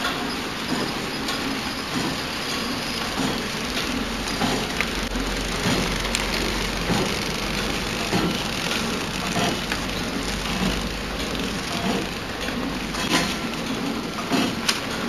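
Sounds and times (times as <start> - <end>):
wrapping machine whirring: 0.0 - 15.0.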